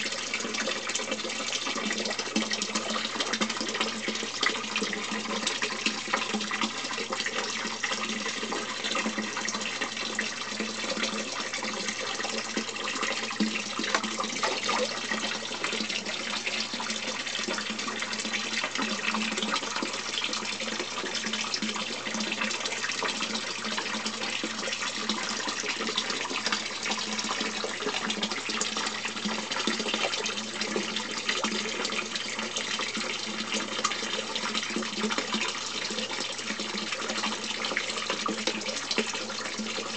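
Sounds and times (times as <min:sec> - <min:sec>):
water splashing into a tank: 0:00.0 - 0:39.9.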